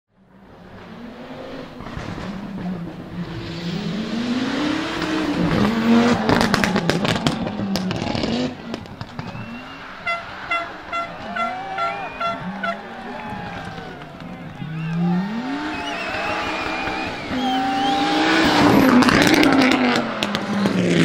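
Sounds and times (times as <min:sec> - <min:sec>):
rally car engine revving: 0:00.4 - 0:21.0.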